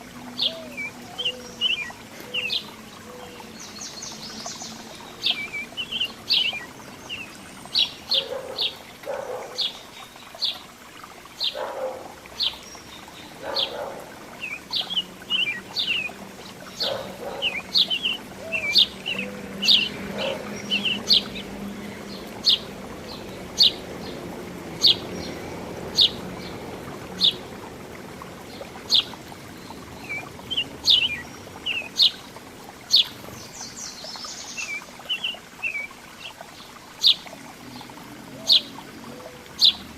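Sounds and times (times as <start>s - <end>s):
small birds chirping: 0.3s - 27.8s, 28.4s - 39.9s.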